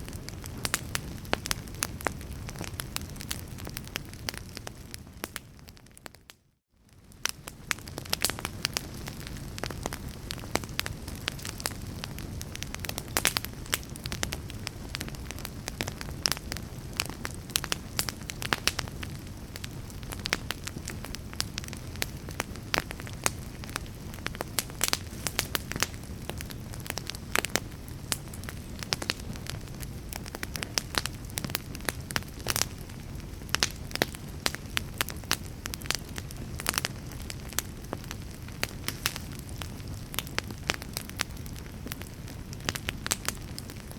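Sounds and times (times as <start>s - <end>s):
fire crackling: 0.0s - 43.9s.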